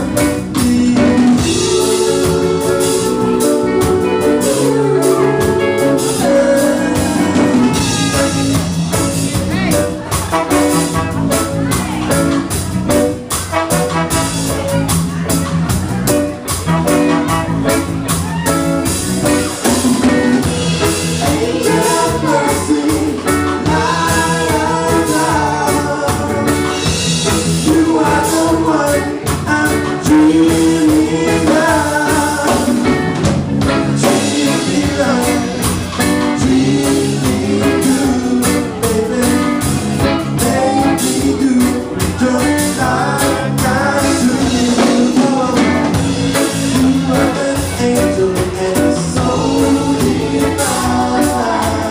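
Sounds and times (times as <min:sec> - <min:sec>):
person singing: 0:00.0 - 0:11.0, 0:16.9 - 0:51.9
drum kit: 0:00.0 - 0:51.9
guitar: 0:00.0 - 0:51.9.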